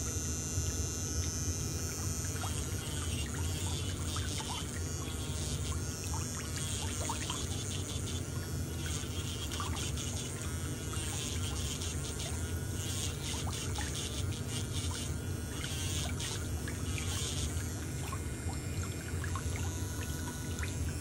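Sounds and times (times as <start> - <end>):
low motor hum: 0.0 - 21.0
water bubbling and trickling: 0.7 - 11.6, 14.6 - 21.0.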